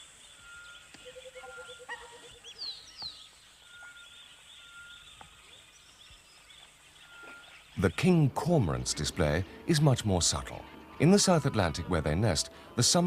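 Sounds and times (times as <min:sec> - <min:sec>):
birds calling: 0:00.0 - 0:13.0
faint outdoor background: 0:00.0 - 0:13.0.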